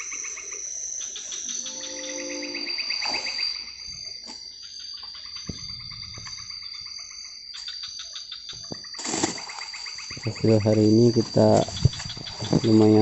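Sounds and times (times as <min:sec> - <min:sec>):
insect pulsed trills: 0:00.0 - 0:13.0
insects buzzing: 0:00.0 - 0:13.0.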